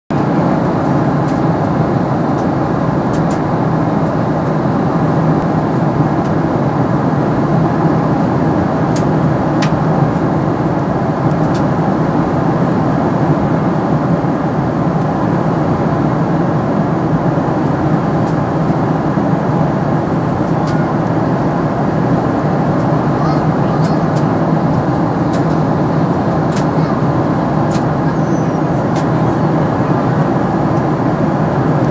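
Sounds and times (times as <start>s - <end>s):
airliner cabin noise: 0.1s - 31.9s.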